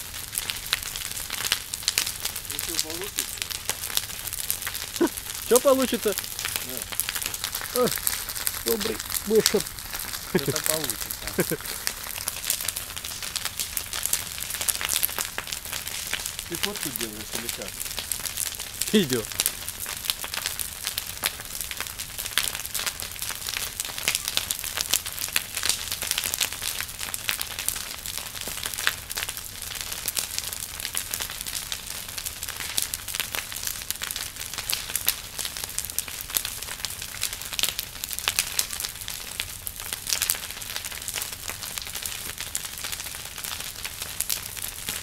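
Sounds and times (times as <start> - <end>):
large fire crackling: 0.0 - 45.0.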